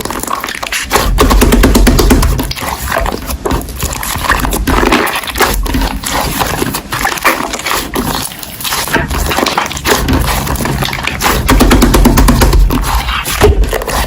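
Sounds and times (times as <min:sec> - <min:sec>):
slime crackling and popping: 0:00.0 - 0:14.0.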